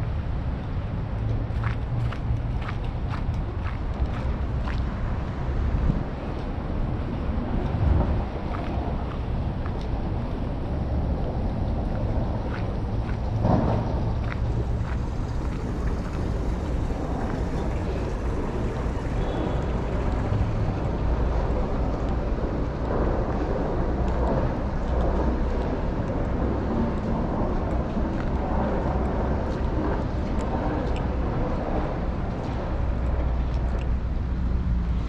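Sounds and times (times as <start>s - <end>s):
traffic rumble: 0.0s - 35.0s
wind on microphone: 0.0s - 35.0s.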